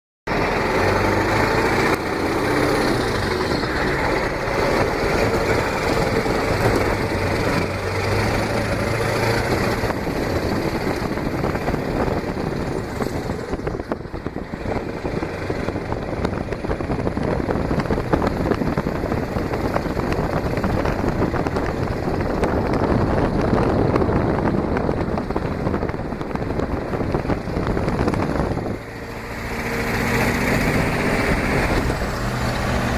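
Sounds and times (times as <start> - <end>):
engine running: 0.3 - 32.9
wind buffeting microphone: 0.3 - 32.9.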